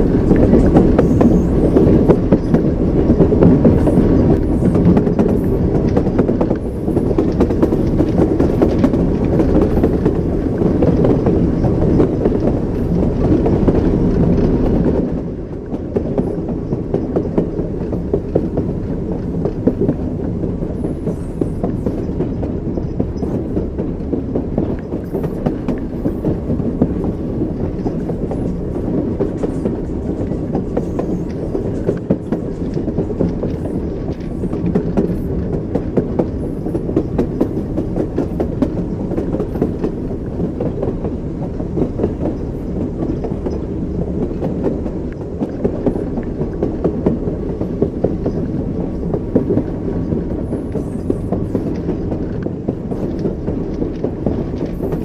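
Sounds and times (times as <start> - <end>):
train rumble: 0.0 - 55.0
train wheels clacking: 0.0 - 55.0.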